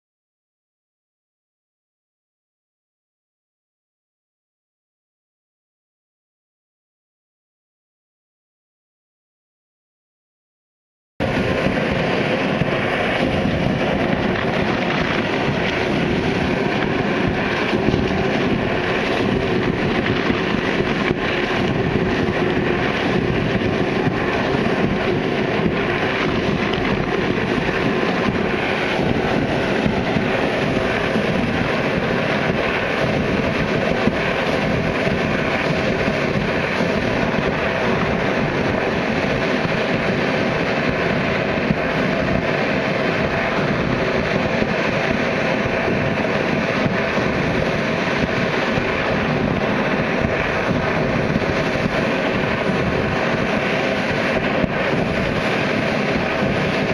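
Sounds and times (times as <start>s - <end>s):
hot spring water gushing: 11.2s - 56.9s.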